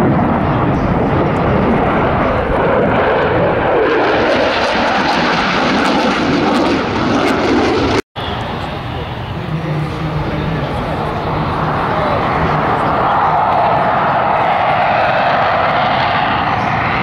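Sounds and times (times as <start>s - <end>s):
fighter jet roar: 0.0s - 17.0s.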